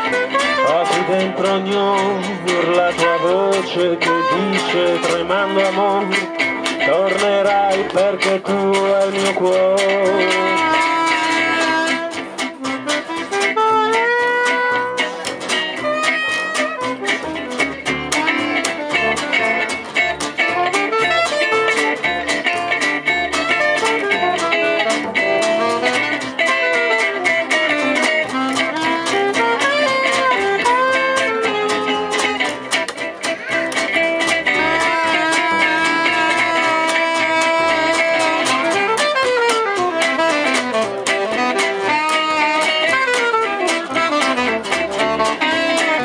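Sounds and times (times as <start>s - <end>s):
acoustic rhythm guitar strumming: 0.0s - 46.0s
lead melody with sliding notes: 0.0s - 46.0s.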